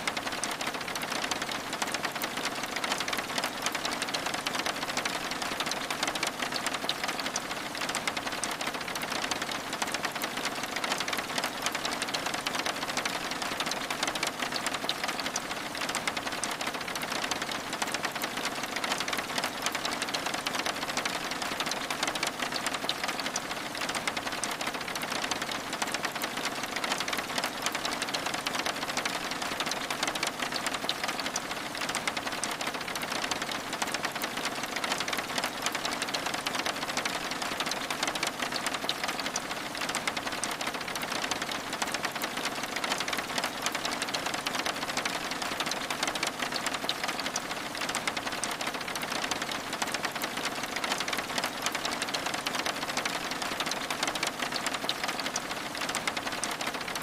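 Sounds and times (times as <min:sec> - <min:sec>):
rain pattering on window glass: 0:00.0 - 0:57.0.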